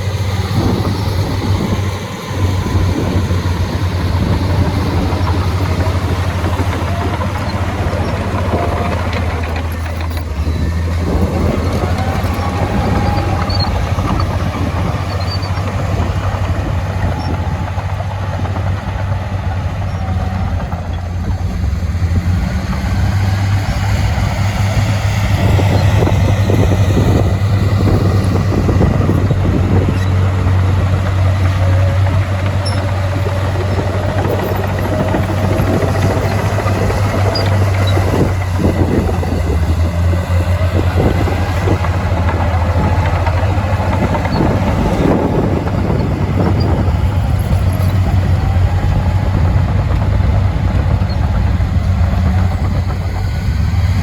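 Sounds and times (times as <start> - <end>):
diesel engine droning: 0.0 - 54.0
high engine whine: 0.0 - 54.0.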